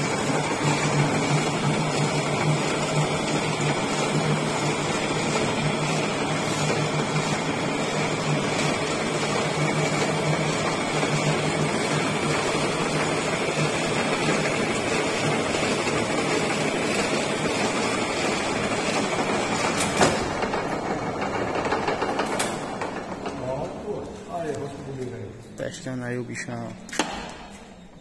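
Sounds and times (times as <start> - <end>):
lathe running with steady hum: 0.0 - 25.6.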